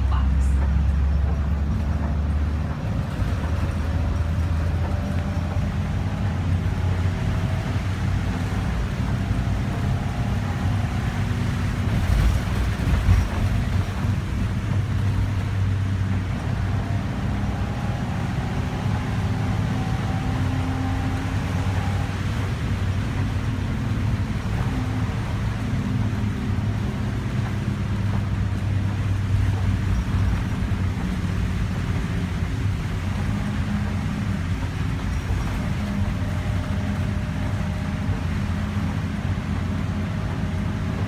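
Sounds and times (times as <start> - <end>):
bus diesel engine drone: 0.0 - 41.0.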